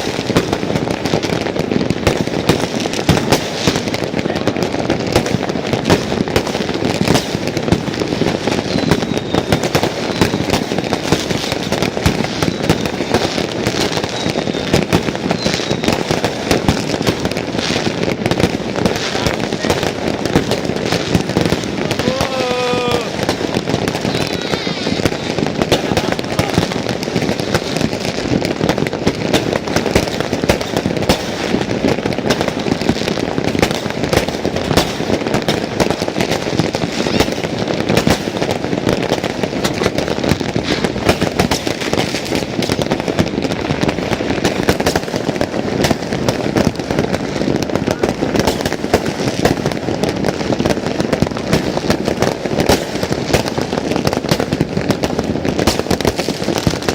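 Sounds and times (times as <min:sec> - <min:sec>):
fireworks crackling and popping: 0:00.0 - 0:56.9.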